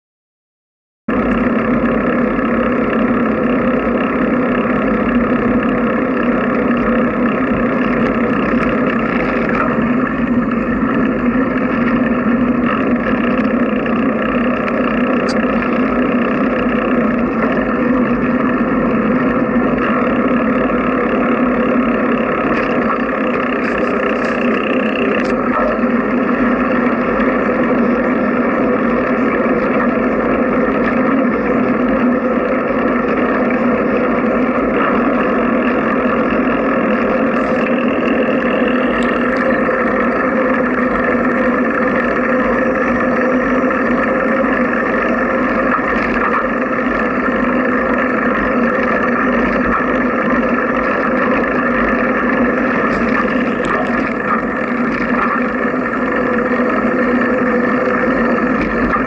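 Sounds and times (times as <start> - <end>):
bicycle rolling on pavement: 1.1 - 59.0.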